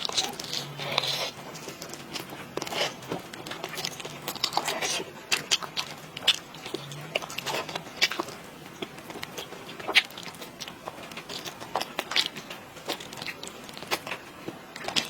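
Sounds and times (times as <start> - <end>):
person chewing with wet smacks: 0.0 - 15.0.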